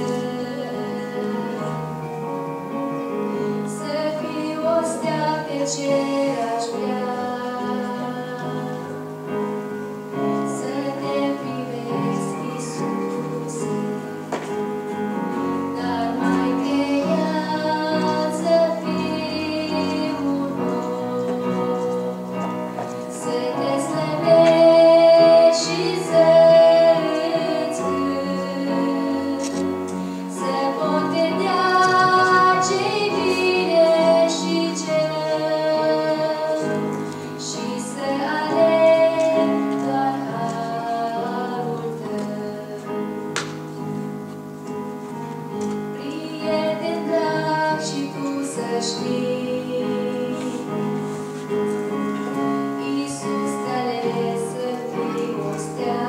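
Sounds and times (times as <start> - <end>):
woman singing a hymn: 0.0 - 2.4, 3.3 - 14.6, 15.3 - 43.6, 45.7 - 56.0
electric keyboard chords: 0.0 - 56.0.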